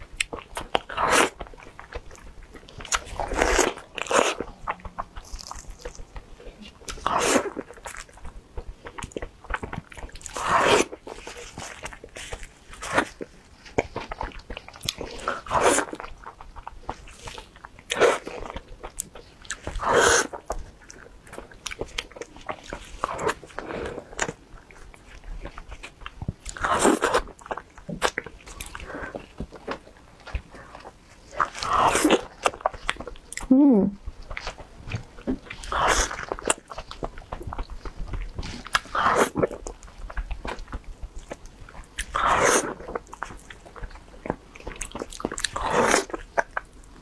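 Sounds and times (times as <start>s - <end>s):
person chewing: 0.0s - 47.0s.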